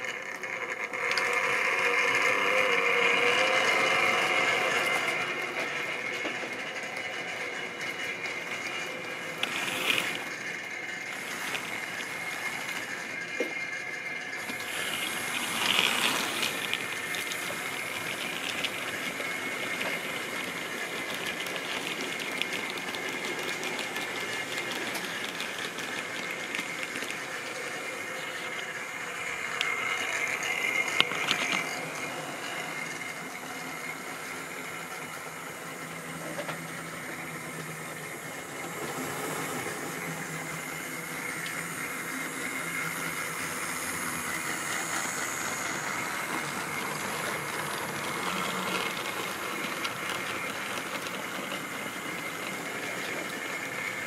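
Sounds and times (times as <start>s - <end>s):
small electric motors whirring: 0.0s - 54.0s
wheels clicking over track: 0.0s - 54.0s.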